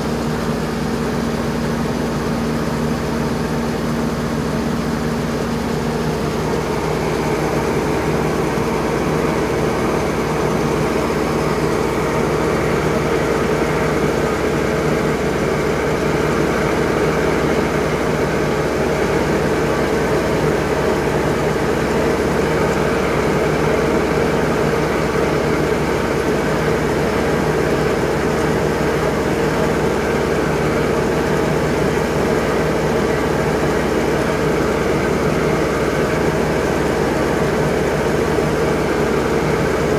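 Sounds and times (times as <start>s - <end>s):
grain auger engine droning: 0.0s - 39.9s.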